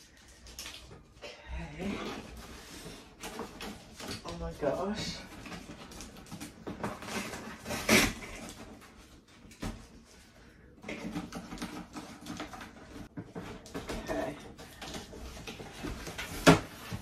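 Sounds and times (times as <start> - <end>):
tape and cardboard crackling: 0.0 - 17.0.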